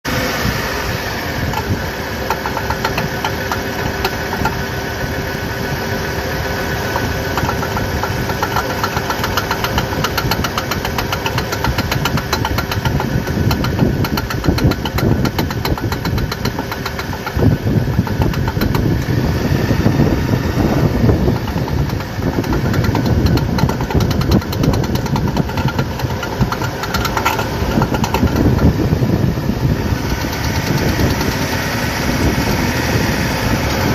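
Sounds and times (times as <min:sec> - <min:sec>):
vehicle engine running: 0:00.0 - 0:33.9
drive shaft joint clunking: 0:01.4 - 0:05.4, 0:06.5 - 0:32.4.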